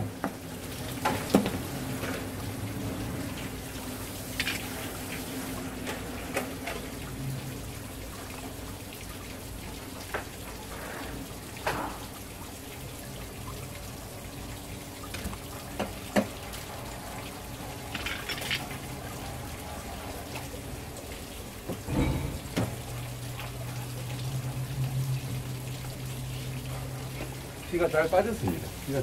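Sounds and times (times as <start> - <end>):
running water: 0.0 - 29.0.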